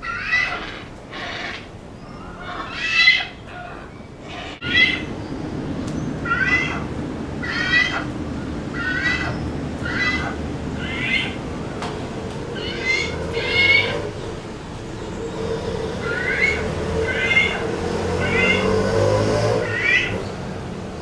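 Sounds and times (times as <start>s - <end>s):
young hornbills begging calls: 0.0s - 18.8s.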